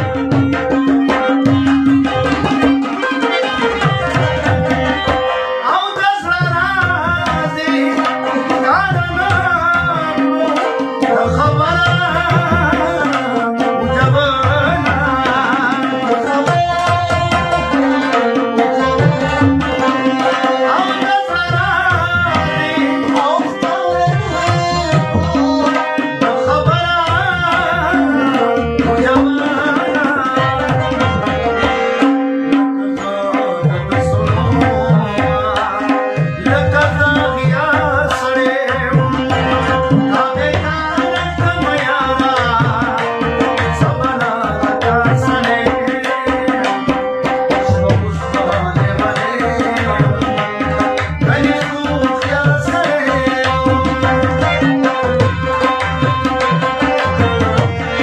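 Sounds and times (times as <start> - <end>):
harmonium held notes: 0.0 - 58.0
man singing: 0.0 - 58.0
rubab: 0.0 - 58.0
tabla: 0.0 - 58.0.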